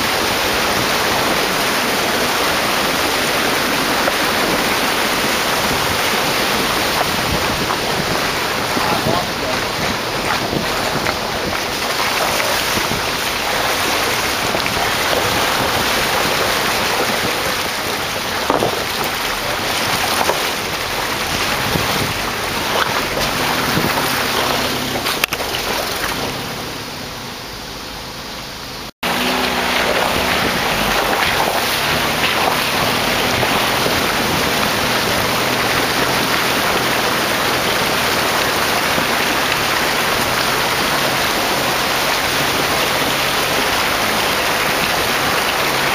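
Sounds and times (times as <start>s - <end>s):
water splashing around tyres: 0.0s - 45.9s.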